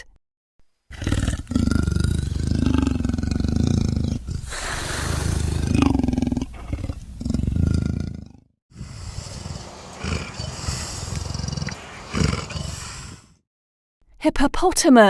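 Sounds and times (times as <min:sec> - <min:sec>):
leopard growling and roaring: 0:00.9 - 0:13.4.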